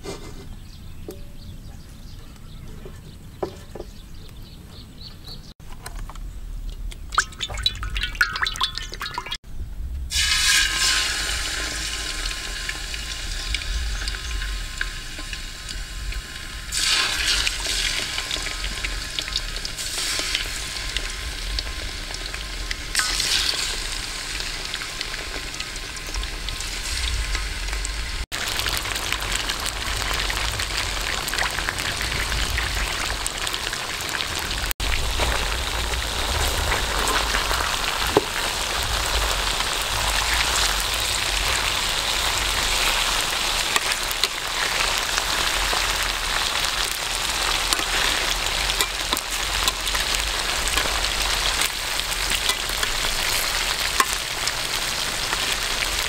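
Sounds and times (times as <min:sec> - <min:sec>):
food sizzling in hot oil: 0:07.1 - 0:09.4, 0:10.1 - 0:56.0.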